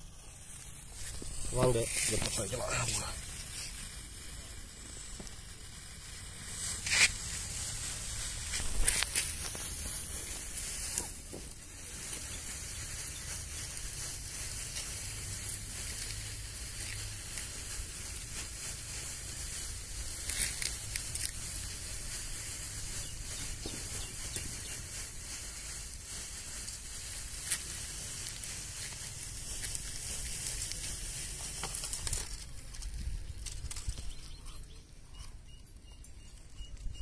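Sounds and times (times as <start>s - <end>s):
firework fizzing hiss: 0.0s - 34.2s
firework crackles: 0.0s - 34.9s.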